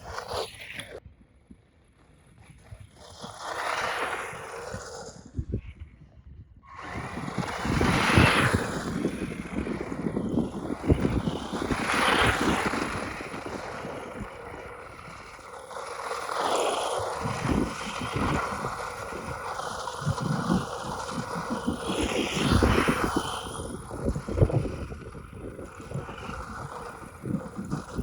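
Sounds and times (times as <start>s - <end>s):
electric rc buggy driving past: 1.8s - 5.9s, 6.7s - 28.0s
wind buffeting microphone: 4.2s - 28.0s.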